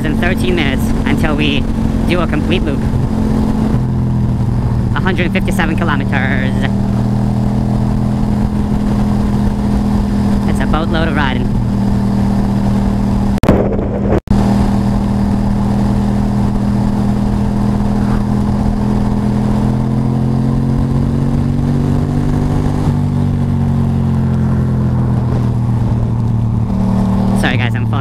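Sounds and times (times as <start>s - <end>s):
motorcycle engine cruising: 0.0s - 28.0s.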